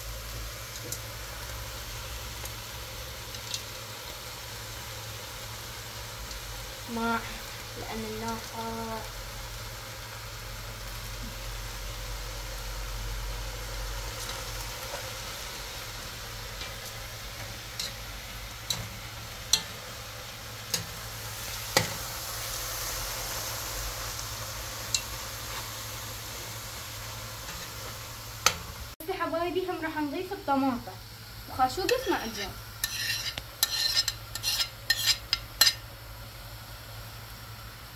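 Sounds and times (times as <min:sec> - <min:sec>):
food sizzling in a pot: 0:00.0 - 0:37.9.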